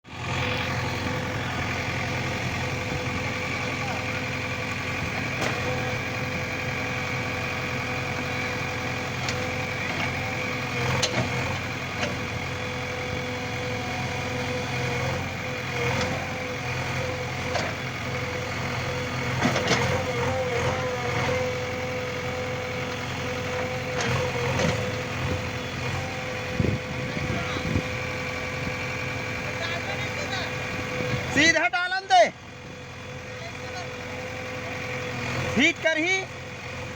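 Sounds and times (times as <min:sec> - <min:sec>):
diesel engine whining: 0:00.0 - 0:36.9.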